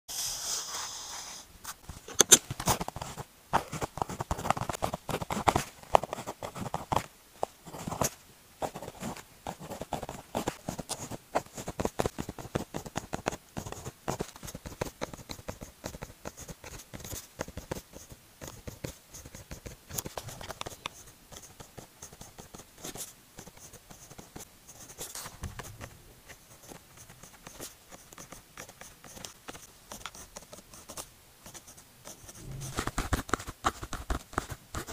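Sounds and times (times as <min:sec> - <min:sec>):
pen scratching on paper: 0:02.0 - 0:07.0, 0:07.6 - 0:34.9.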